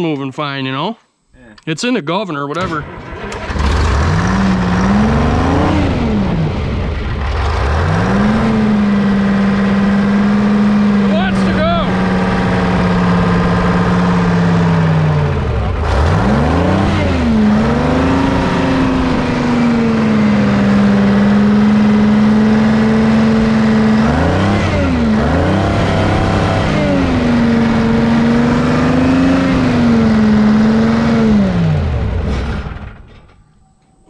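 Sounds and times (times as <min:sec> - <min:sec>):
diesel engine revving: 0:02.5 - 0:33.1.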